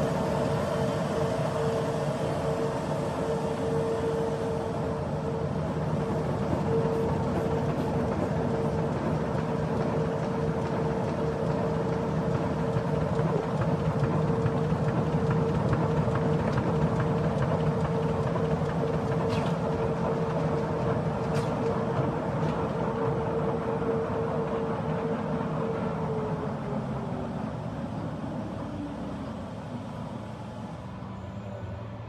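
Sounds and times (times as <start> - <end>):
constant mid-pitched hum: 0.0 - 32.0.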